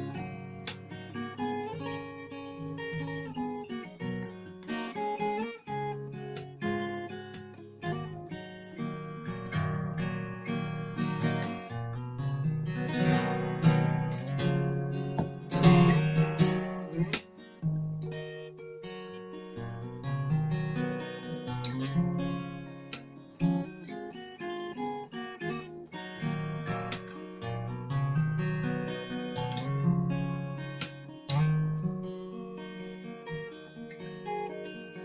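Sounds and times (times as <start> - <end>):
fingerstyle guitar playing: 0.0 - 35.0.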